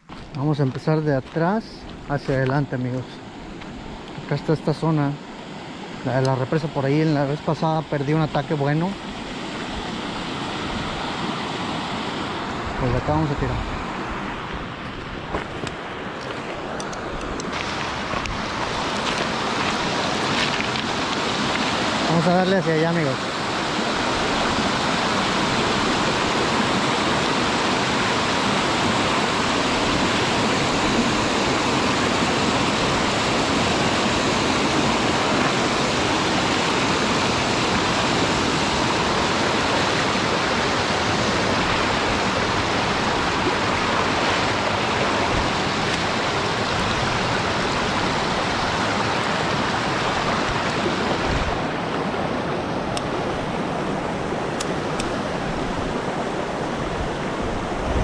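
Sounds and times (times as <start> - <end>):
water rushing over rock dam: 0.1 - 58.0.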